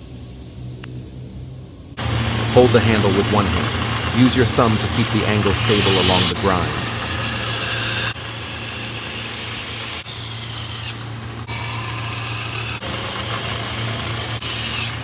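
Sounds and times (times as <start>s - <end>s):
belt sander motor hum: 2.0s - 15.0s
blade grinding on belt: 2.0s - 15.0s.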